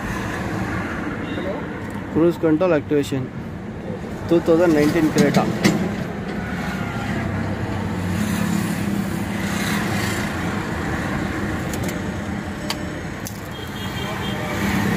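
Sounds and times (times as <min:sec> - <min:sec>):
car engine and road noise: 0:00.0 - 0:14.9.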